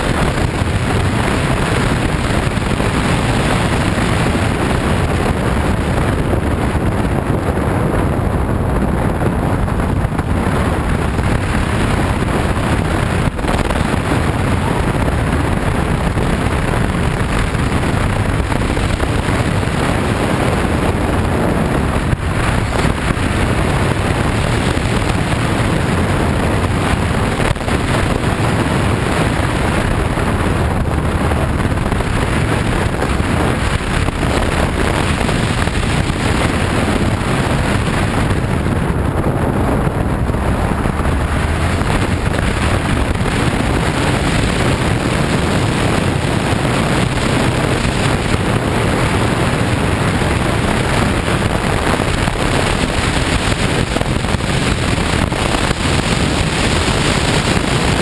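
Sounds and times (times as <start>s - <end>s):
motorcycle engine drone: 0.0s - 58.0s
wind buffeting microphone: 0.0s - 58.0s.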